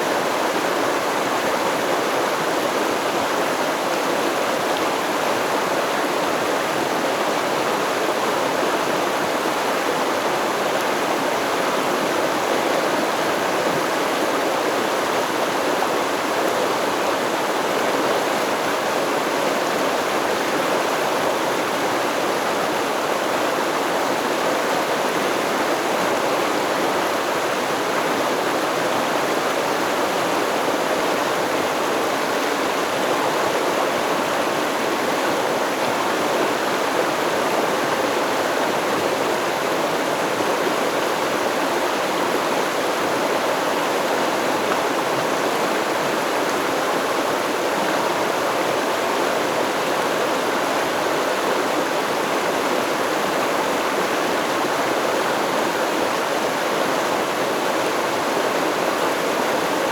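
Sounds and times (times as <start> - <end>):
stream water babbling over rocks: 0.0 - 59.9.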